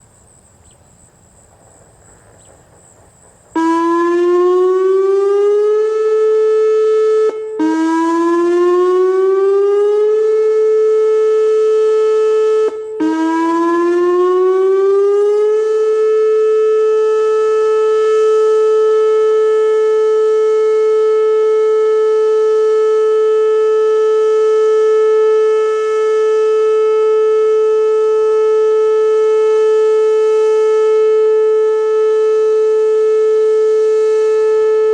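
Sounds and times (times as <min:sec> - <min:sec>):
electronic warning siren: 0:03.5 - 0:34.9.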